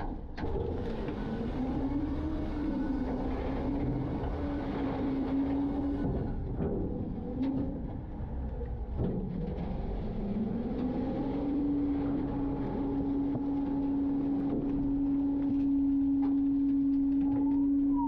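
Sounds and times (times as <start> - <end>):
droning hum: 0.0 - 18.0
garbage truck rumbling: 0.0 - 18.0.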